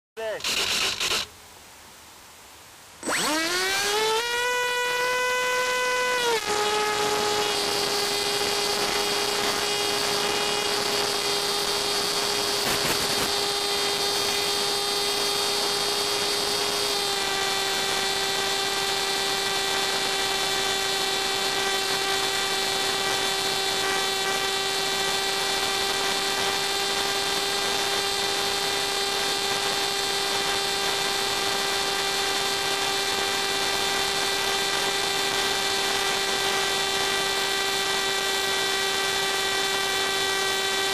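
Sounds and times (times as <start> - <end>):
high-pitched motor and propeller whine: 0.2 - 1.3, 3.0 - 40.9.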